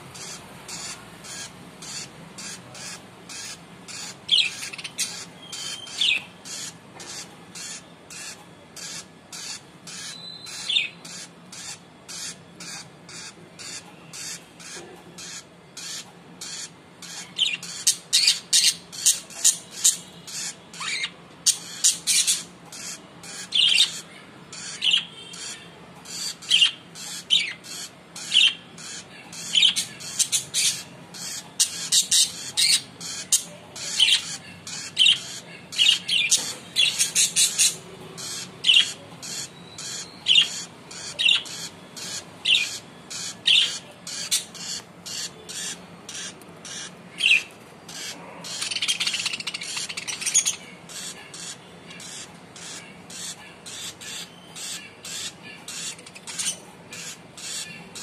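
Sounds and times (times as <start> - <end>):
lovebirds squawking: 0.0 - 58.0.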